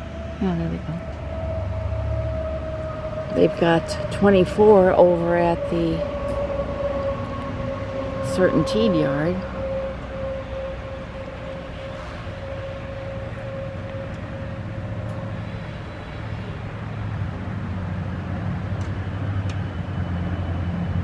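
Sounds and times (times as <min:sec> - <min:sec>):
diesel locomotive engine idling: 0:00.0 - 0:21.0.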